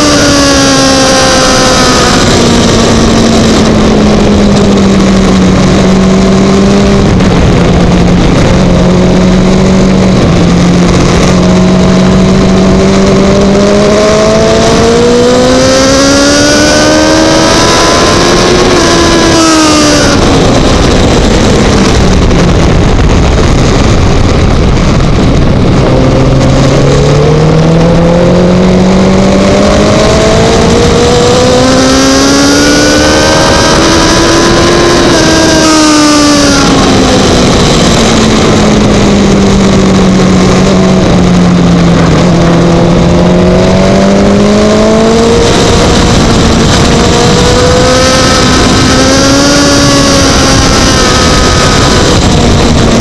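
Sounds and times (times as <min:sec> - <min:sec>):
racing motorcycle engine: 0:00.0 - 0:53.0
wind rushing on microphone: 0:00.0 - 0:53.0.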